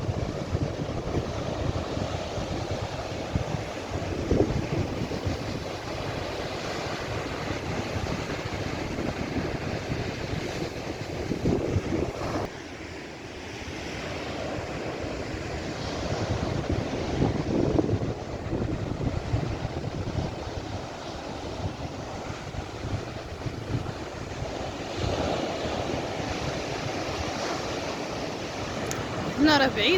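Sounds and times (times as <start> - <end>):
wind buffeting microphone: 0.0 - 12.6, 14.8 - 29.9
sea waves surging: 0.0 - 29.9.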